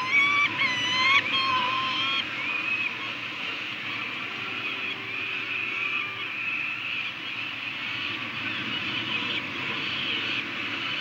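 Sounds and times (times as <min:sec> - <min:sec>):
falcon chicks begging cries: 0:00.0 - 0:11.0.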